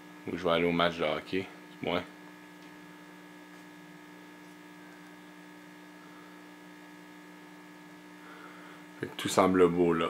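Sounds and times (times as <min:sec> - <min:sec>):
faint mains hum: 0:00.0 - 0:10.0.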